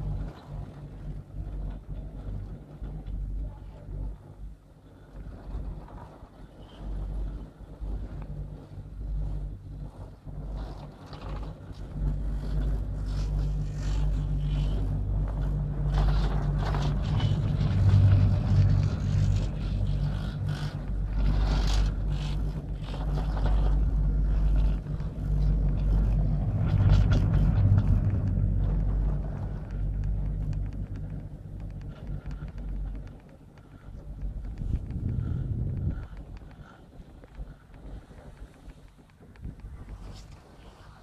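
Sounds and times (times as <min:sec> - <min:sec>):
chairlift low rumble: 0:00.0 - 0:41.0.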